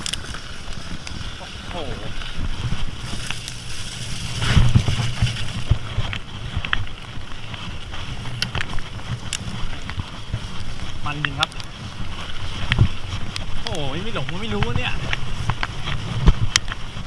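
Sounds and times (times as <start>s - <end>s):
bike rattles and clicks: 0.0s - 17.0s
bike tyres rumbling on dirt: 0.0s - 17.0s.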